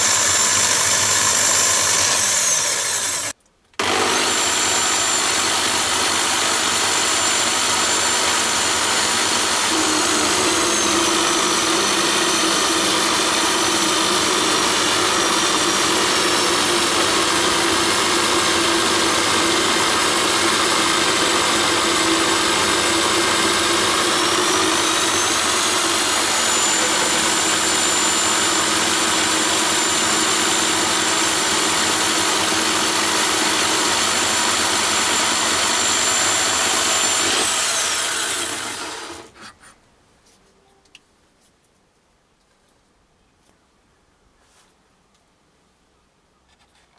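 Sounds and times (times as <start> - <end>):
lathe milling steel with high whine: 0.0 - 39.3.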